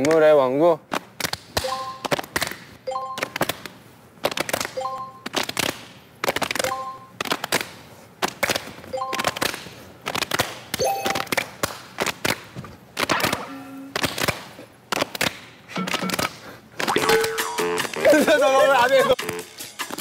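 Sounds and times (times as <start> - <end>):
group clapping and body slapping: 0.9 - 18.0.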